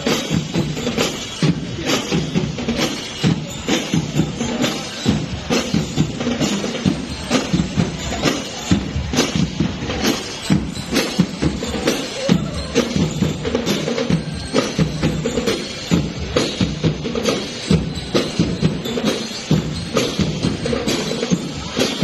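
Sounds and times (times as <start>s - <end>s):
drum and lyre band playing: 0.0s - 22.0s
marching drum beat: 0.0s - 22.0s.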